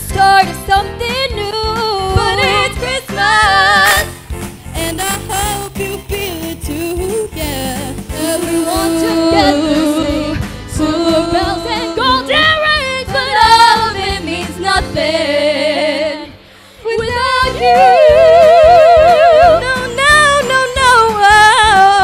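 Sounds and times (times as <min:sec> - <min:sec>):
girls singing a pop christmas song: 0:00.0 - 0:22.0.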